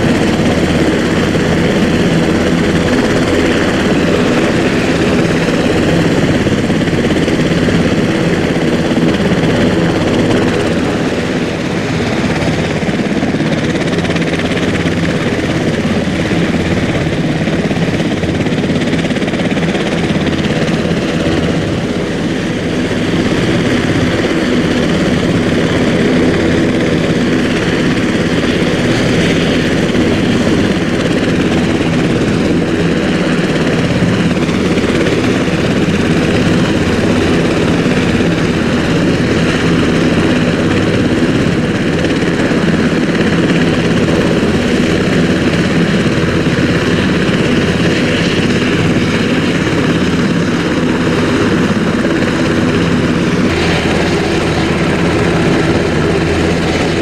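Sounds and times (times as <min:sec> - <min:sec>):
helicopter rotor and turbine noise: 0:00.0 - 0:57.0
high turbine whine: 0:00.0 - 0:57.0.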